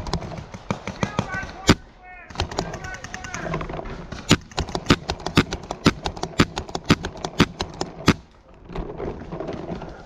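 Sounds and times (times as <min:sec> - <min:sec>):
paintball markers firing: 0:00.0 - 0:08.3.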